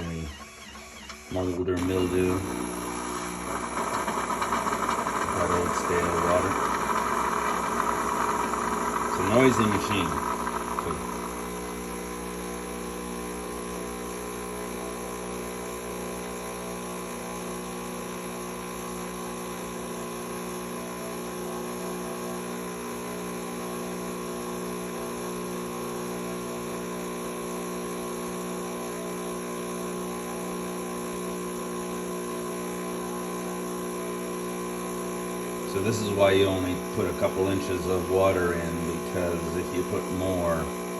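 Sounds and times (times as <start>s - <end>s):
coffee machine pump humming: 0.0s - 40.9s.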